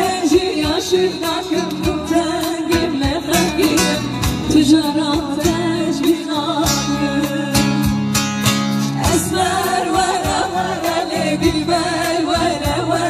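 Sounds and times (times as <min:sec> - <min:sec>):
woman singing into a microphone: 0:00.0 - 0:08.1, 0:08.8 - 0:13.0
amplified live band music: 0:00.0 - 0:13.0
drum beats: 0:00.0 - 0:13.0.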